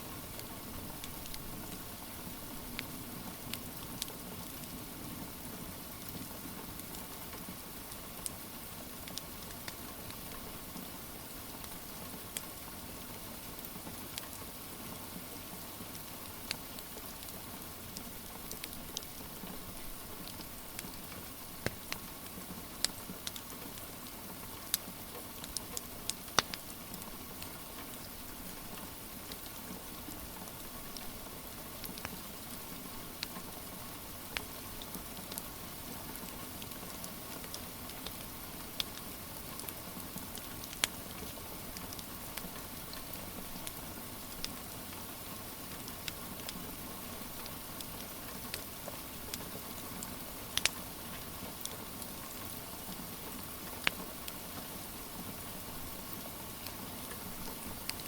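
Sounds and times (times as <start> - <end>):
rain hiss: 0.0 - 58.0
wood fire crackling: 0.2 - 4.6, 5.4 - 12.7, 15.2 - 58.0.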